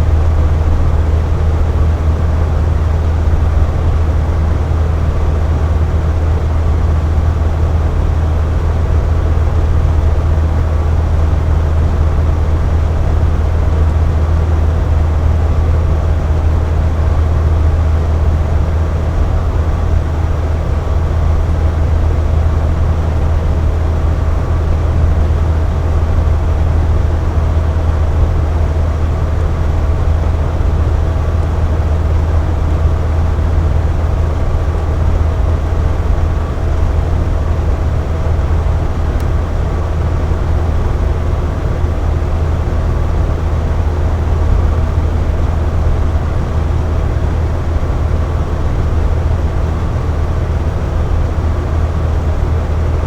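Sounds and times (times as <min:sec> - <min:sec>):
box fan running: 0:00.0 - 0:53.0
faint steady whine: 0:00.0 - 0:53.0.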